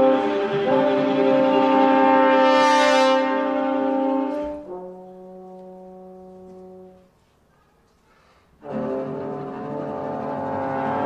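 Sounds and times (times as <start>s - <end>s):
trombones holding low notes: 0.0s - 7.2s, 8.6s - 11.0s.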